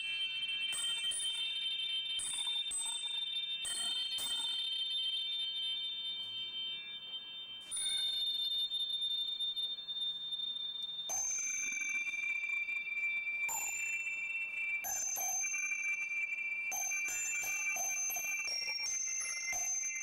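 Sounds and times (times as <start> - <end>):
small metal bells ringing: 0.0 - 20.0.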